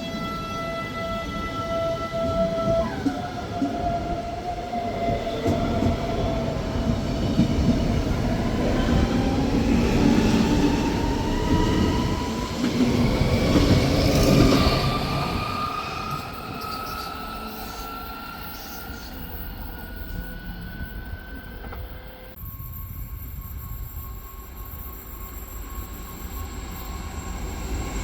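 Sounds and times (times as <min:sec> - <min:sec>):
train wheels rumbling: 0:00.8 - 0:28.0.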